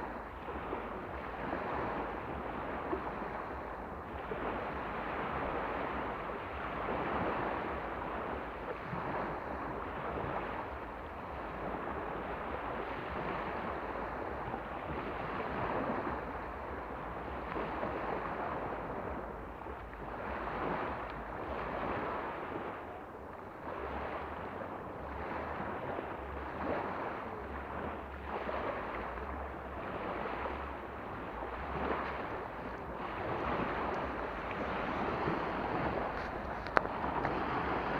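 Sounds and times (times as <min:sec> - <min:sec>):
sea waves washing onto shore: 0:00.0 - 0:37.9
wind rumbling on microphone: 0:00.0 - 0:37.9.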